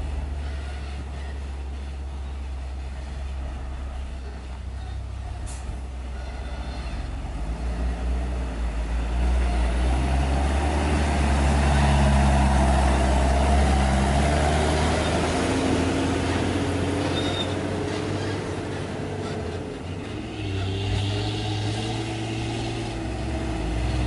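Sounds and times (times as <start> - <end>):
dump truck driving past: 0.0 - 24.0.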